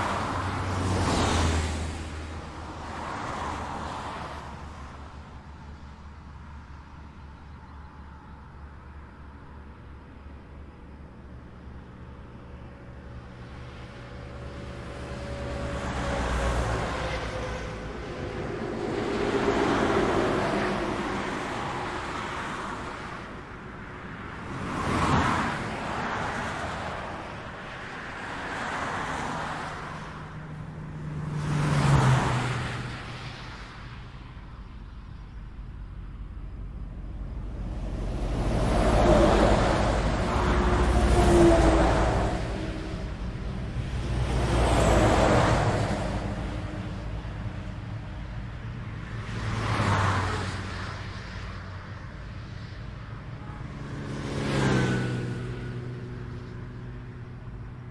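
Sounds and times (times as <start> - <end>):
vehicles passing on highway: 0.0 - 57.9.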